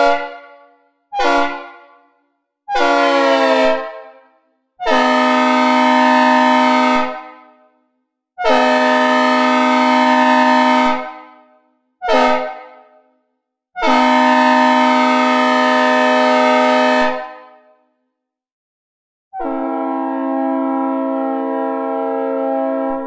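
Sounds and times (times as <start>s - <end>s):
locomotive air horn chord blasts: 0.0s - 2.1s, 2.7s - 7.6s, 8.4s - 12.9s, 13.8s - 17.5s, 19.4s - 23.0s.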